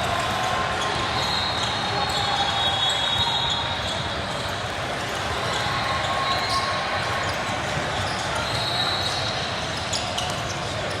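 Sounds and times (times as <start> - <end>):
crowd hubbub: 0.0 - 11.0.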